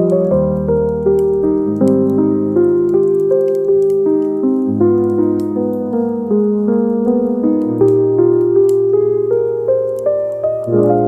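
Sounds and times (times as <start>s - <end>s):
fireplace fire crackling: 0.0s - 11.0s
gentle piano music: 0.0s - 11.0s.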